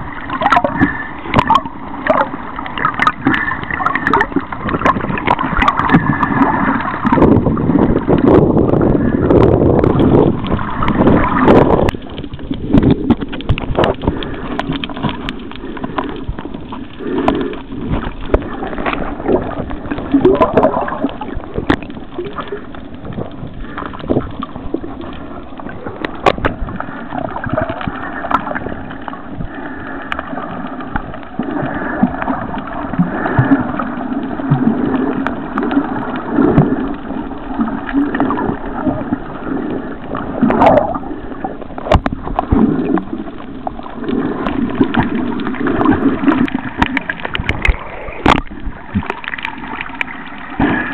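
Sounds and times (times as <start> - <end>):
water gurgling and sloshing: 0.0 - 50.9.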